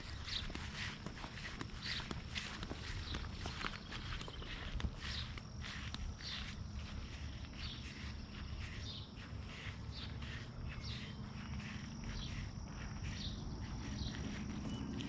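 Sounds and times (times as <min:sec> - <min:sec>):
footsteps outdoors: 0:00.0 - 0:15.0.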